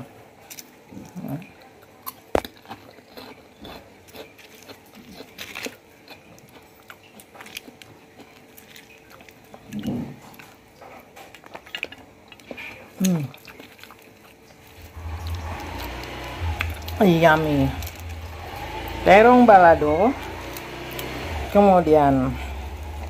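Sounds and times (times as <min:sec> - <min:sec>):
food clicks and crunches: 0:00.4 - 0:17.0, 0:17.6 - 0:19.0, 0:20.2 - 0:21.3.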